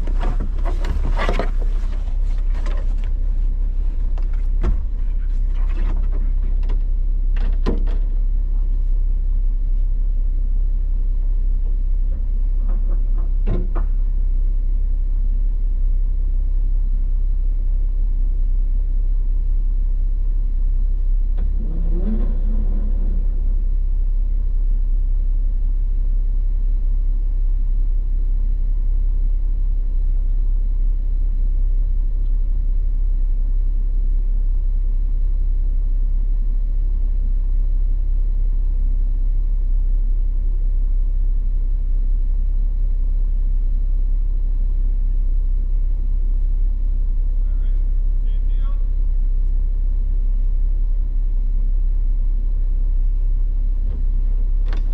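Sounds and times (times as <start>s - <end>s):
vehicle driving rumble: 0.0s - 54.9s.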